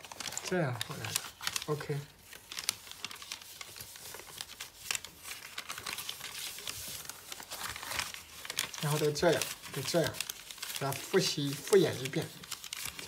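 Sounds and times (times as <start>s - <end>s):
paper crinkling and crackling: 0.0s - 13.0s.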